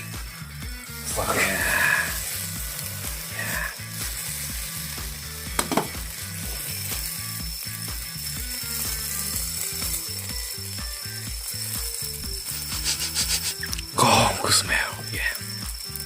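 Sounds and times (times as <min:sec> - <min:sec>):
music with bouncy bass beat: 0:00.0 - 0:16.0.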